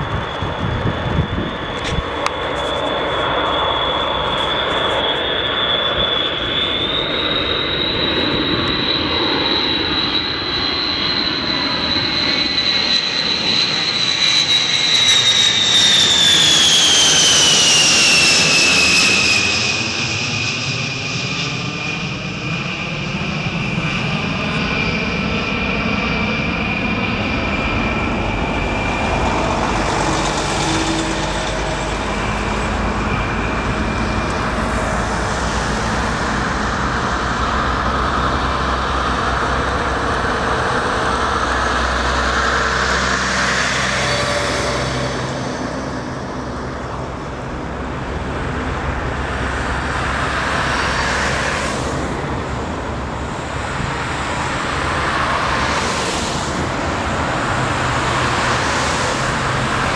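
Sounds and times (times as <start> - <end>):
jet bomber passing overhead: 0.0 - 59.9.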